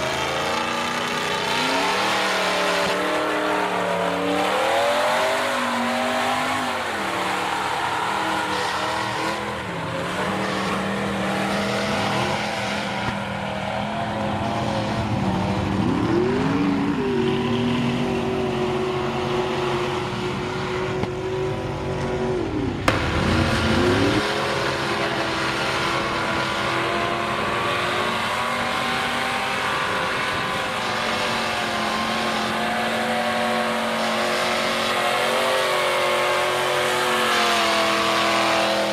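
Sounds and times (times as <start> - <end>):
truck engines revving loudly: 0.0 - 38.9.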